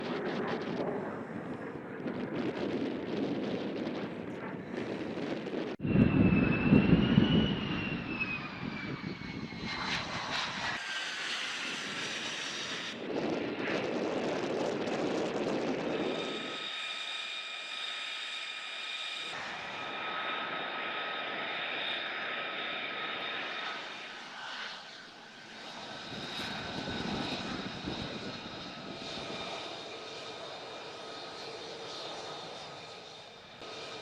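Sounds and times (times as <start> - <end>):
high-pitched turbine whine: 0.0 - 34.0
jet engine rumble and whine: 0.0 - 34.0.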